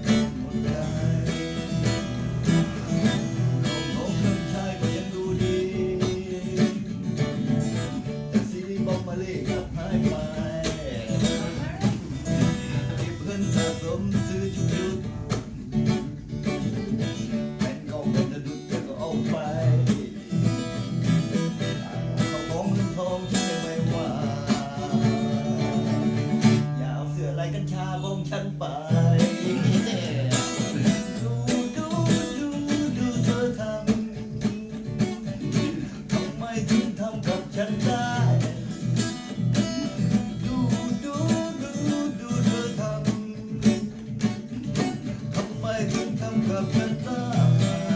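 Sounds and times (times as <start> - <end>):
steady beat: 0.0 - 26.7, 29.2 - 47.9
person singing: 0.0 - 47.9
plucked acoustic guitar: 0.0 - 47.9.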